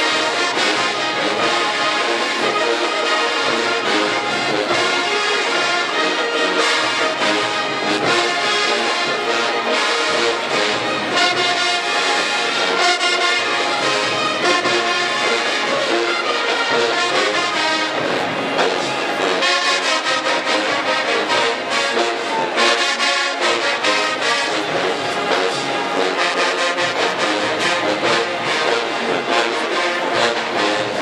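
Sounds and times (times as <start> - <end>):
drumline snares and bass drums: 0.0 - 31.0
marching band brass: 0.0 - 31.0.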